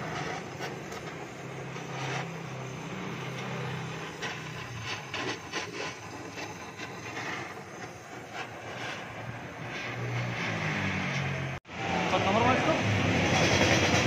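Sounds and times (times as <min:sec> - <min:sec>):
welding torch hissing: 0:00.0 - 0:14.0.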